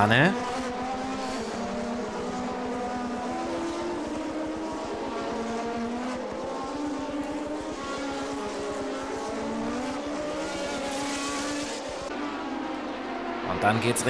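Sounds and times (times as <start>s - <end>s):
racing car engines: 0.0s - 14.0s.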